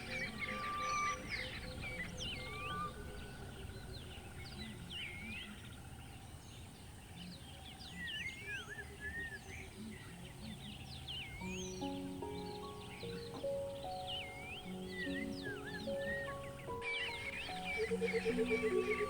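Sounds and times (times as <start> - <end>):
birds chirping: 0.0 - 19.0
outdoor background hiss: 0.0 - 19.0.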